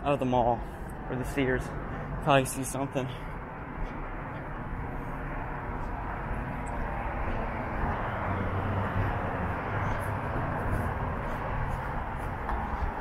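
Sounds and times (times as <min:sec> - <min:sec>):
distant engine rumble: 0:00.0 - 0:13.0.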